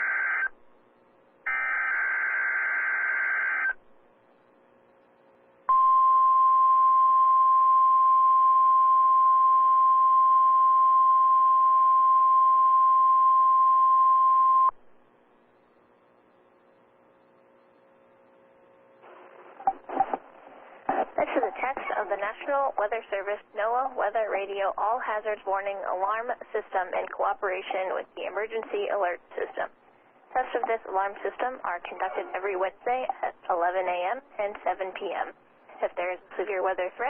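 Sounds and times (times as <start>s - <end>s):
faint hum: 0.0s - 37.0s.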